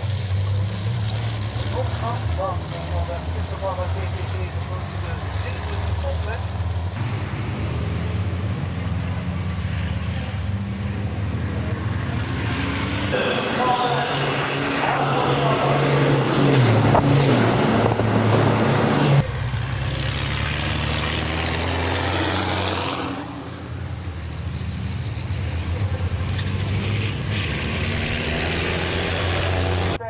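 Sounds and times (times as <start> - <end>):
truck diesel engines racing: 0.0 - 30.0.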